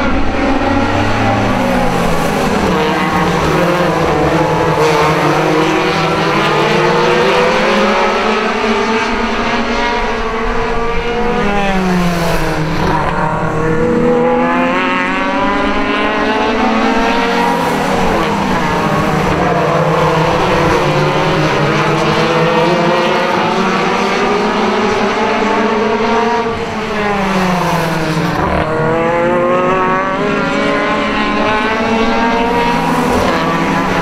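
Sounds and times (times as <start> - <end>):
race car engines at high revs: 0.0 - 34.0.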